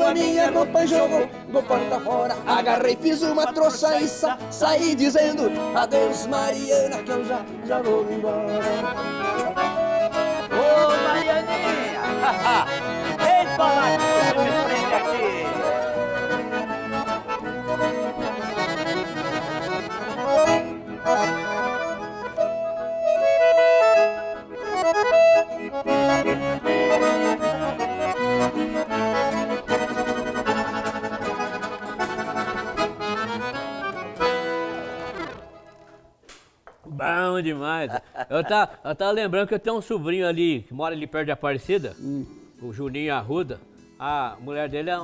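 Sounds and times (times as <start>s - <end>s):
accordion playing: 0.0s - 36.2s.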